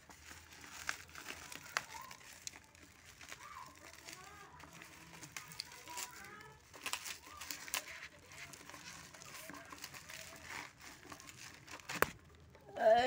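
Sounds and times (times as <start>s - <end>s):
plastic mailer bag crinkling: 0.0s - 12.6s.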